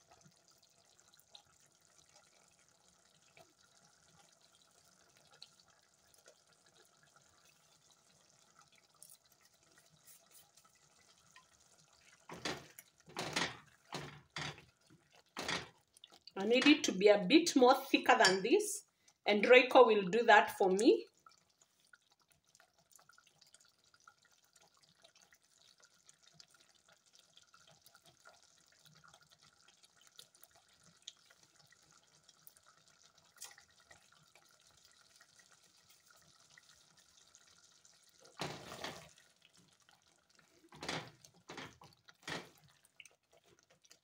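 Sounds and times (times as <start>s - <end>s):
wooden spoon stirring stew: 0.0s - 16.9s, 25.4s - 44.0s
stew bubbling in a pot: 0.0s - 44.0s.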